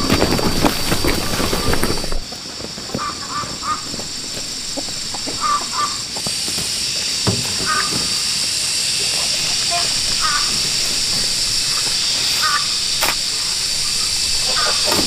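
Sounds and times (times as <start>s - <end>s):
harsh bird calls: 0.0s - 15.0s
high-pitched hiss: 0.0s - 15.0s.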